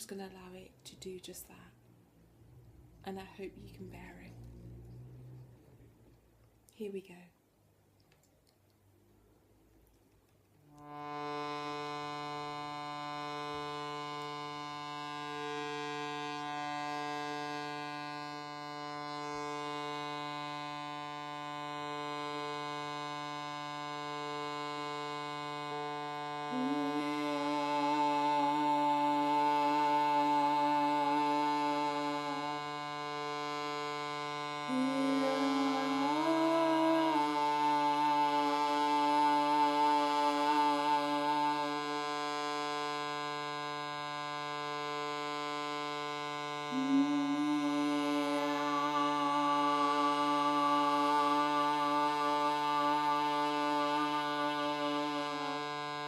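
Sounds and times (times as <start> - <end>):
person singing long notes: 10.7 - 56.0
shruti box drone: 10.7 - 56.0.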